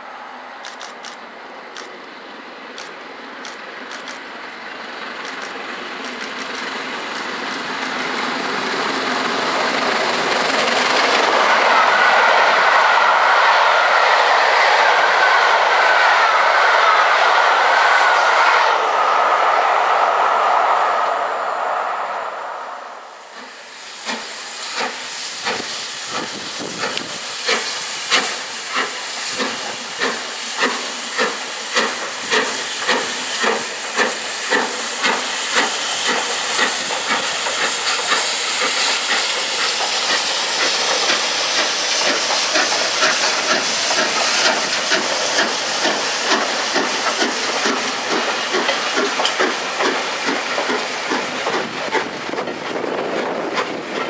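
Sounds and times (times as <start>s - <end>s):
continuous steam hiss: 0.0s - 54.0s
steam locomotive exhaust beats: 2.7s - 54.0s.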